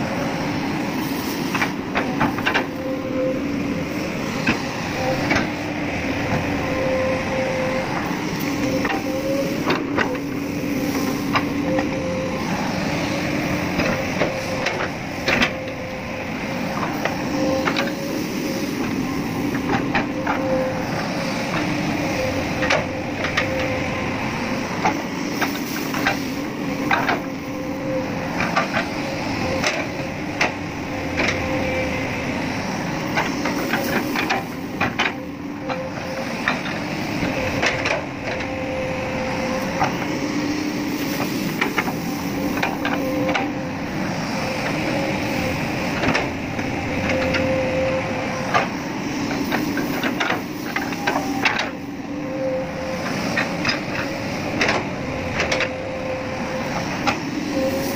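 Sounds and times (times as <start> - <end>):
excavator engine humming: 0.0 - 57.9.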